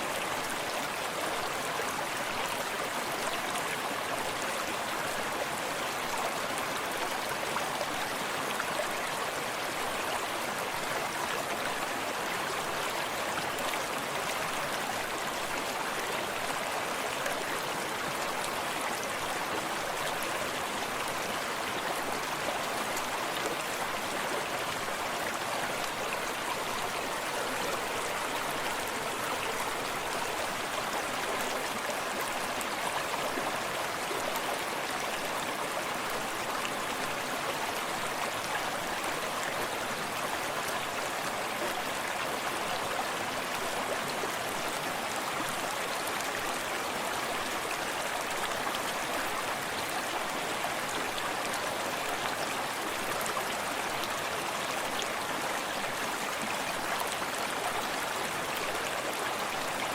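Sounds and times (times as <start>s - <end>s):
stream burbling over rocks: 0.0s - 59.9s.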